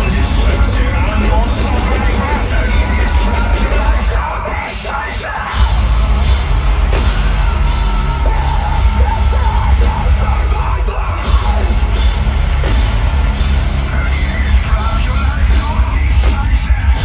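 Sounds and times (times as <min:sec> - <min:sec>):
metalcore band playing live: 0:00.0 - 0:17.0.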